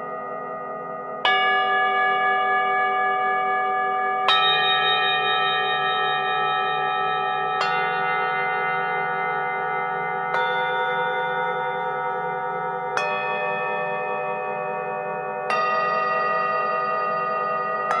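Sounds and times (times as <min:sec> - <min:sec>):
singing bowls ringing: 0:00.0 - 0:18.0.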